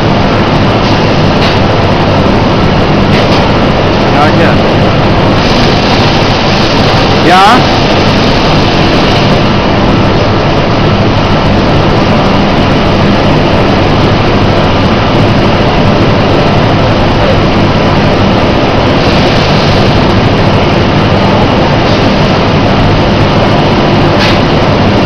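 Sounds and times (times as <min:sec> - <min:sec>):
feed bagging machinery running: 0:00.0 - 0:25.0
low machine hum: 0:00.0 - 0:25.0.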